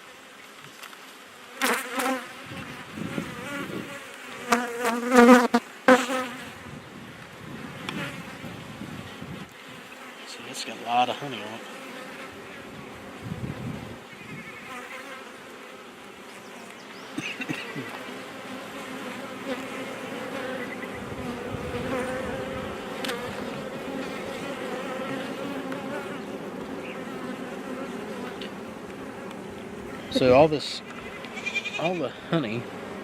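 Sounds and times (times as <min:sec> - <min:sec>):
bees buzzing: 0:01.4 - 0:33.0.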